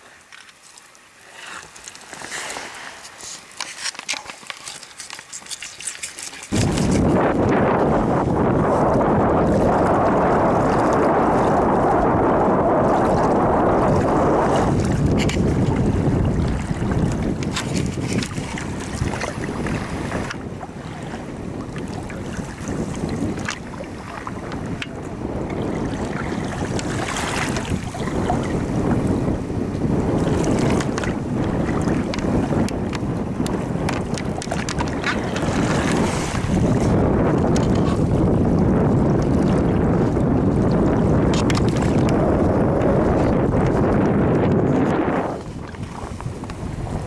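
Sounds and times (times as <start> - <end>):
choppy water washing around canoe: 0.0 - 47.0
waves lapping: 0.0 - 47.0
wind on microphone: 5.0 - 47.0.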